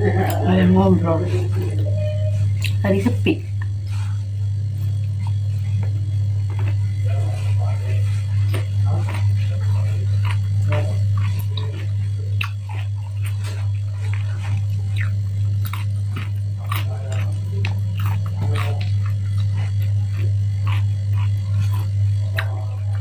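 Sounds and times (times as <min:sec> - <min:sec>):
steady low hum: 0:00.0 - 0:23.0
chewing crunches and mouth clicks: 0:01.5 - 0:23.0.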